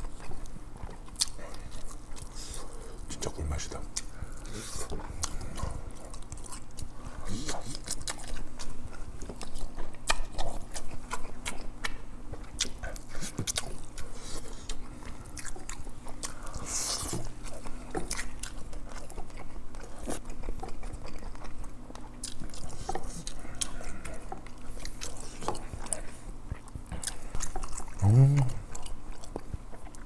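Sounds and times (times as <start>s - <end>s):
chewing and lip-smacking: 0.0s - 30.0s.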